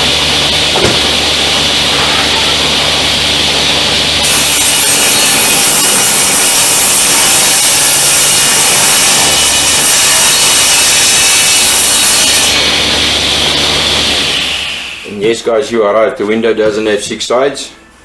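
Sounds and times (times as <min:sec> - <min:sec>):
saw motor humming: 0:00.0 - 0:15.1
table saw cutting wood: 0:00.0 - 0:15.2.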